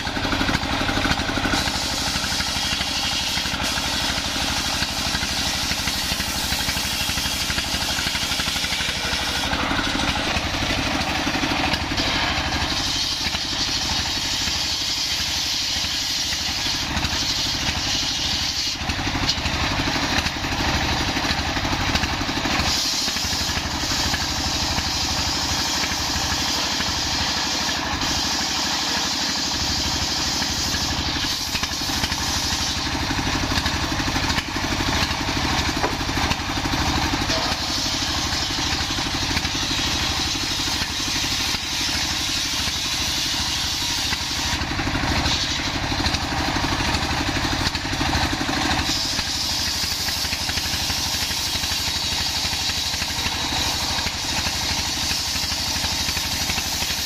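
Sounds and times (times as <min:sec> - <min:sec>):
circular saw cutting log: 0:00.0 - 0:57.0
diesel engine running: 0:00.0 - 0:57.0.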